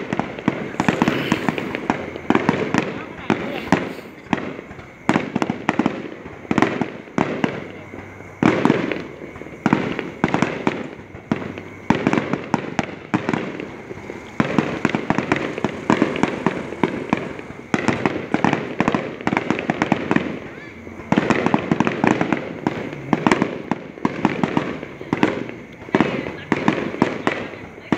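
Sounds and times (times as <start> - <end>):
fireworks bangs: 0.0 - 27.9
fireworks crackling: 0.0 - 27.9.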